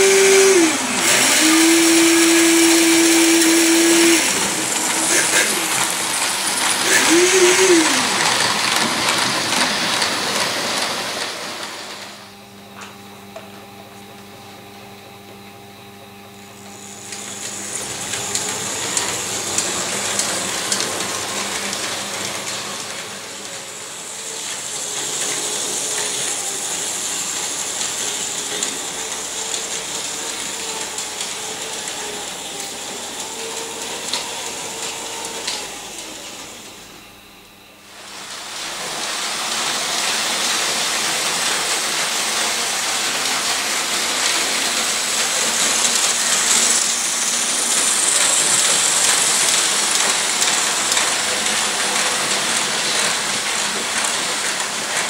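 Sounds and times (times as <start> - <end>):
model train motors whirring: 0.0 - 10.9, 16.9 - 36.2, 38.1 - 55.0.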